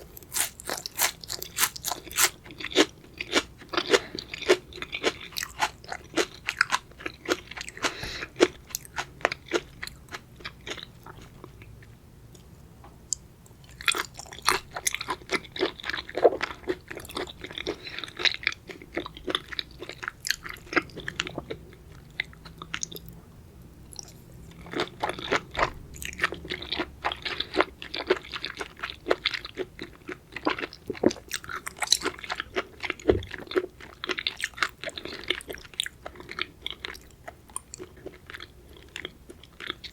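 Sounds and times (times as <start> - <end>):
chewing crunchy seafood: 0.0 - 11.9, 13.6 - 23.2, 23.9 - 39.9.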